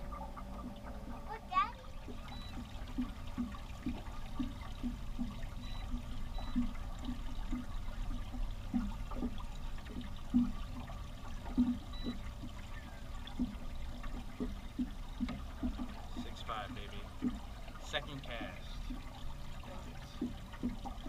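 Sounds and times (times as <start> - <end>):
waves lapping against metal hull: 0.0 - 21.0.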